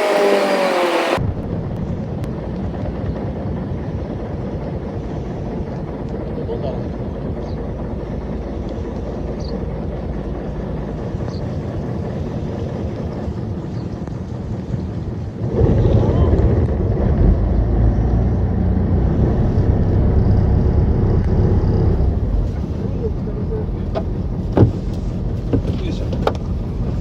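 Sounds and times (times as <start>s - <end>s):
engine running: 0.0s - 27.0s
wind noise: 0.1s - 27.0s.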